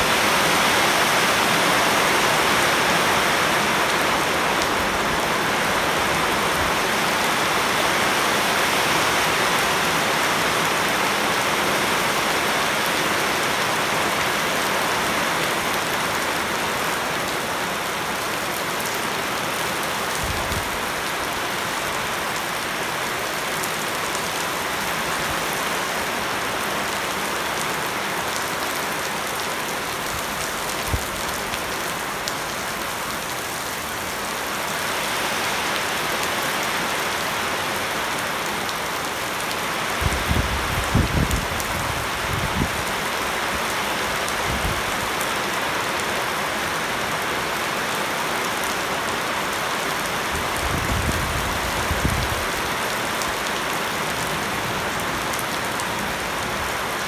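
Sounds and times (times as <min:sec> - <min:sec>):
heavy rain splashing into water: 0:00.0 - 0:57.0.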